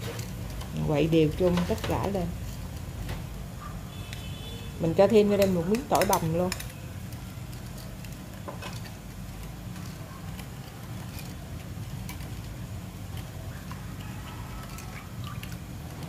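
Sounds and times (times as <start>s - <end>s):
spoon stirring in a bowl: 0.0s - 3.0s, 5.1s - 15.6s
low background hum: 0.0s - 16.0s.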